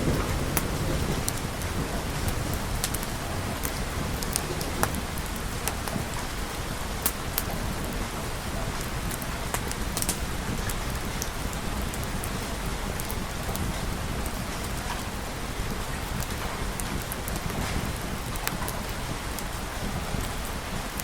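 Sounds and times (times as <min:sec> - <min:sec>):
raindrop ticks: 0:00.0 - 0:21.0
steady rain hiss: 0:00.0 - 0:21.0.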